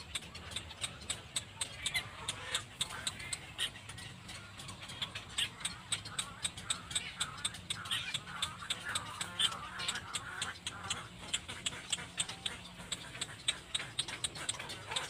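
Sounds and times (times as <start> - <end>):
cormorants calling: 0.0 - 15.0
fast sharp clicks: 0.0 - 15.0.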